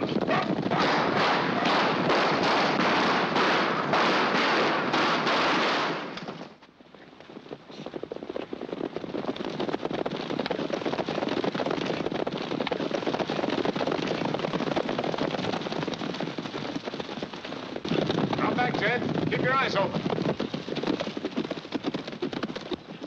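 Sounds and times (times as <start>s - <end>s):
horses galloping hoofbeats: 0.0s - 23.0s.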